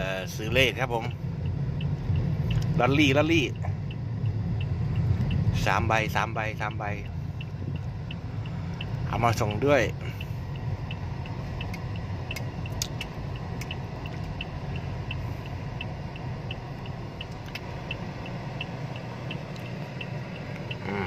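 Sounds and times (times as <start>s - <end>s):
car engine hum and road noise: 0.0s - 21.0s
turn signal ticking: 0.0s - 21.0s.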